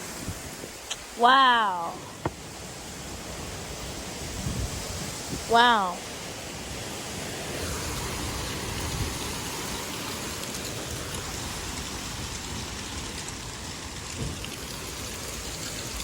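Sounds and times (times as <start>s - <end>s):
windstorm rushing hiss: 0.0s - 1.2s, 2.0s - 14.4s
low rumbling wind gusts: 0.0s - 16.0s.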